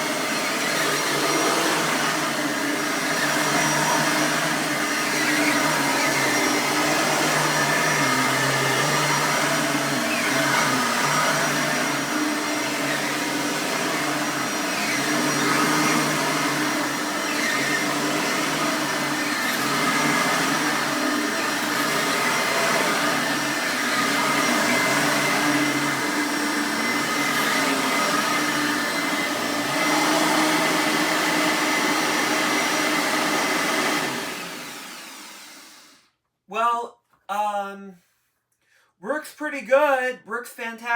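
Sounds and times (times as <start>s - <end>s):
vacuum cleaner motor whine: 0.0s - 36.0s.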